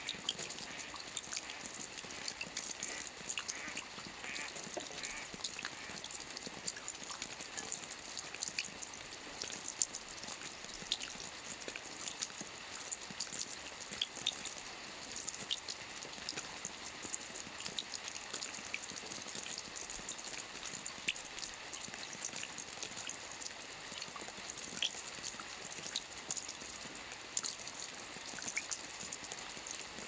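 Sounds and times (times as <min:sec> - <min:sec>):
rain hiss: 0:00.0 - 0:30.0
raindrops ticking: 0:00.0 - 0:30.0.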